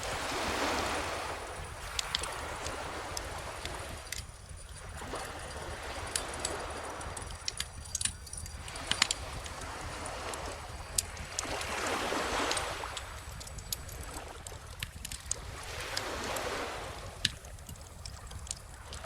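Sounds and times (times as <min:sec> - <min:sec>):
bonfire crackling: 0:00.0 - 0:16.0, 0:16.9 - 0:19.0
ocean waves washing ashore: 0:00.0 - 0:19.0.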